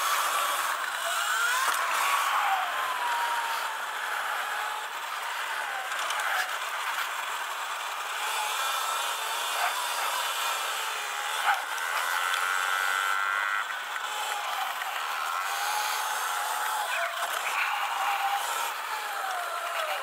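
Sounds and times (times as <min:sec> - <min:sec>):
electric motor whine: 0:00.0 - 0:20.0
tyre and chassis noise: 0:00.0 - 0:20.0.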